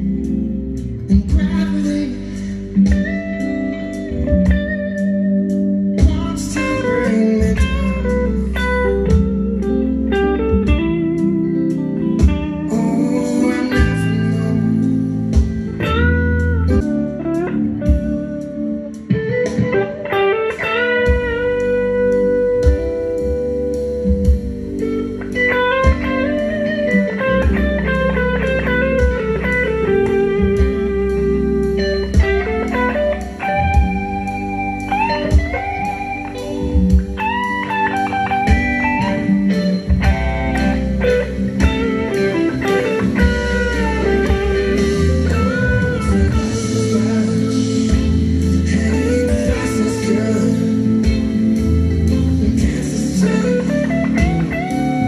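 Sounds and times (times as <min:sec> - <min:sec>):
bluesy electric guitar lead: 0:00.0 - 0:55.0
low accompaniment: 0:00.0 - 0:55.0.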